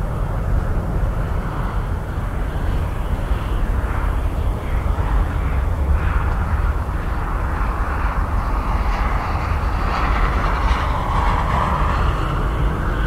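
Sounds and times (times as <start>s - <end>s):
jet engines at takeoff power: 0.0s - 13.0s
wind buffeting microphone: 0.0s - 13.0s.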